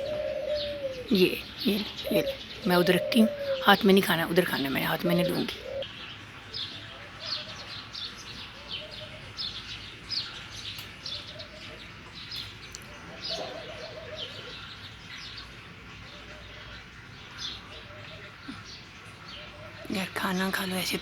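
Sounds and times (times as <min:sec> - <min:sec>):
doves cooing: 0:00.0 - 0:21.0
small birds chirping: 0:00.0 - 0:21.0.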